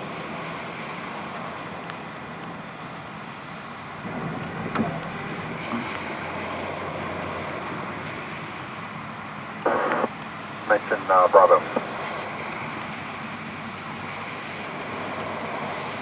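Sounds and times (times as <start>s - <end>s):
wind: 0.0s - 16.0s
heavy rain: 3.0s - 16.0s.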